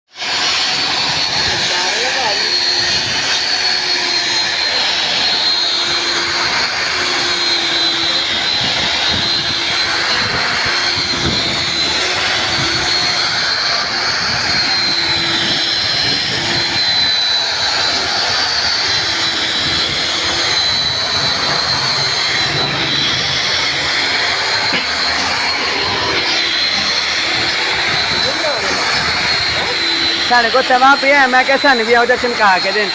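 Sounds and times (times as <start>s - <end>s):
power grinder grinding metal: 0.1s - 32.9s.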